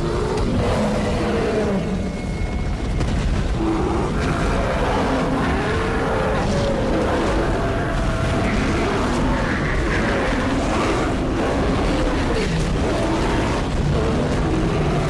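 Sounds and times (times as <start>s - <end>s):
massed pounding rumble: 0.0s - 15.0s.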